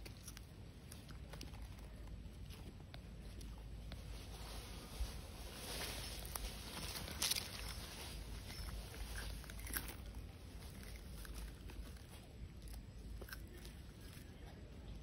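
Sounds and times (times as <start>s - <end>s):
tortoise chewing crunches: 0.0s - 15.0s.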